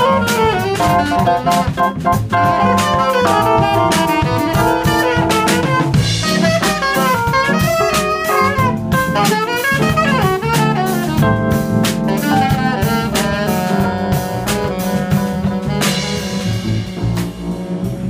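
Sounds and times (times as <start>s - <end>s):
bass notes: 0.0s - 18.0s
drums and cymbals: 0.0s - 18.0s
saxophone solo: 0.0s - 18.0s.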